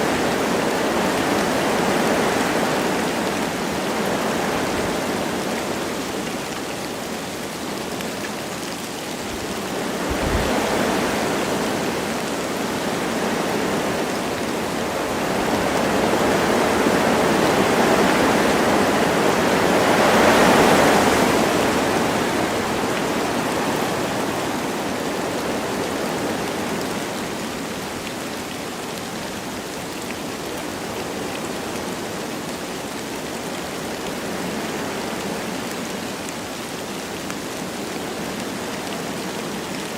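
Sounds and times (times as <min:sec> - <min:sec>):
light rain: 0:00.0 - 0:39.9
wind through forest trees: 0:00.0 - 0:39.9.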